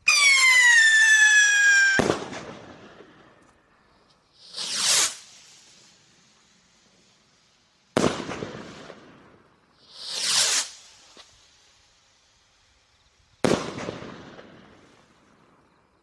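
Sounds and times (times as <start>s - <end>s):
fireworks bangs: 0.0s - 12.5s, 13.2s - 15.7s
firework rushing sound: 0.0s - 15.4s.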